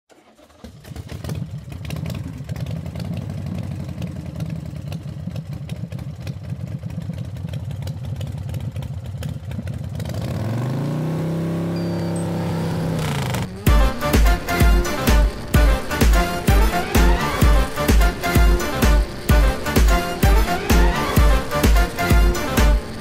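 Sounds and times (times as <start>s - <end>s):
engine clattering: 0.1s - 23.0s.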